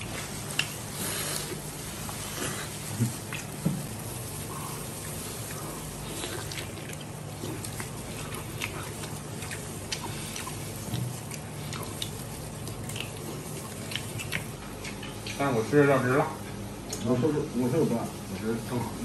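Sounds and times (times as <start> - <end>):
person chewing wet meat: 0.0 - 15.8, 16.8 - 17.1
steady low hum: 0.0 - 19.0.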